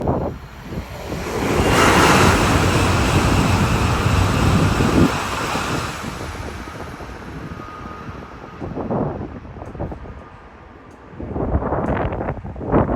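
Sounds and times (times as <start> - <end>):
train passing at speed: 0.0 - 11.8
wind buffeting microphone: 0.0 - 12.9.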